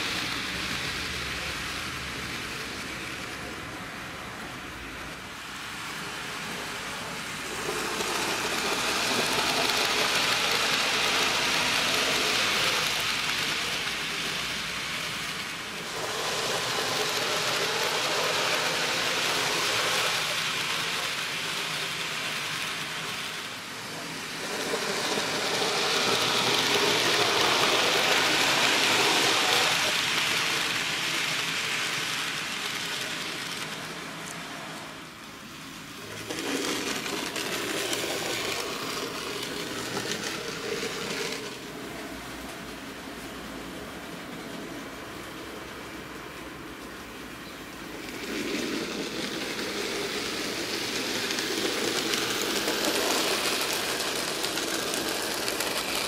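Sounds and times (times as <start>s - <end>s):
model train wheels rattling: 5.9s - 34.4s, 35.7s - 45.8s, 47.8s - 56.0s.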